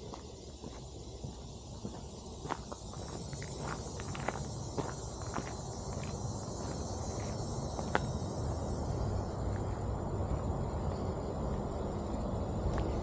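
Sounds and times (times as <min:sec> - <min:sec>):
constant low rumble: 0:00.0 - 0:13.0
insects buzzing: 0:00.0 - 0:13.0.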